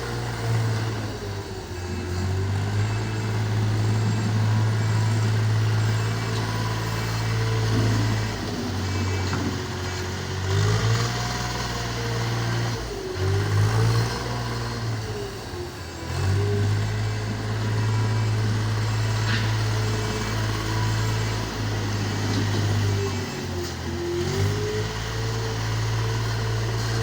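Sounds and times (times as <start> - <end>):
heavy engine running: 0.0 - 27.0.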